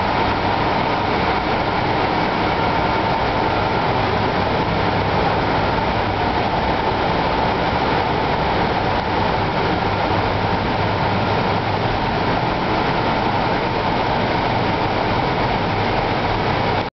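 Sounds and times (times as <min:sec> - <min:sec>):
cooling fans whirring: 0:00.0 - 0:16.9.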